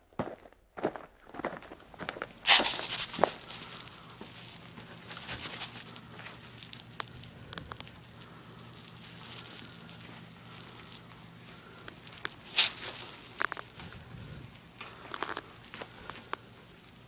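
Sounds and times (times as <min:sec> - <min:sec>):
soft footsteps: 0:00.2 - 0:17.0
steady low hum: 0:00.2 - 0:17.0
faint rustling: 0:02.5 - 0:17.0.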